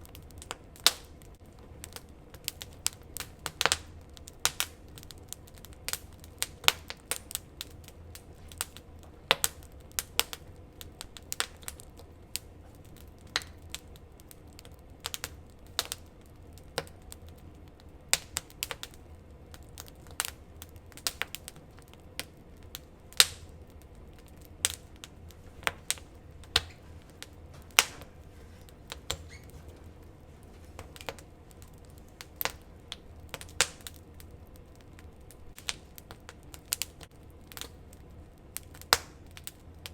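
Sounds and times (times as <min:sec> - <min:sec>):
campfire crackling and popping: 0:00.0 - 0:39.9
faint low rumble: 0:00.0 - 0:39.9.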